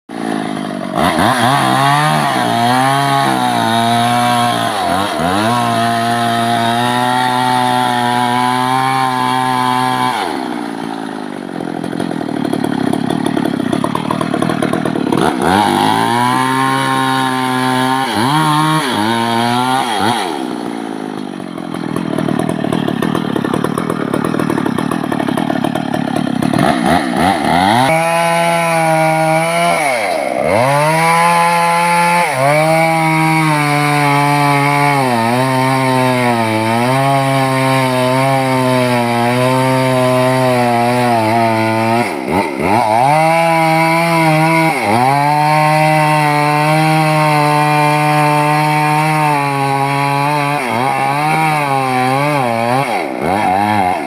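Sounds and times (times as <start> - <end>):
chainsaw cutting wood: 0.1 - 54.0.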